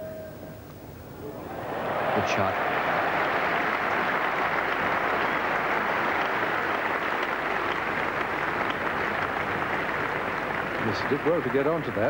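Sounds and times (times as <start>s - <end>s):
crowd clapping: 1.4s - 12.0s.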